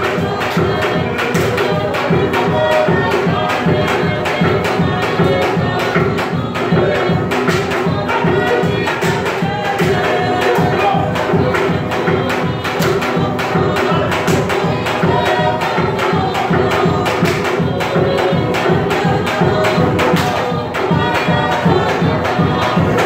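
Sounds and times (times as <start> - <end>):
fast drumming: 0.0 - 23.0
group singing: 0.0 - 23.0.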